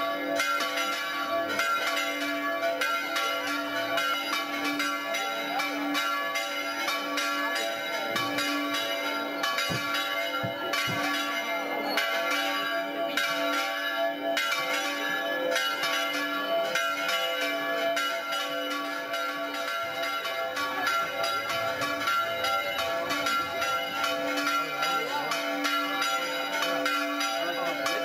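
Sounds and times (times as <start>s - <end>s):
church bells pealing: 0.0s - 28.0s.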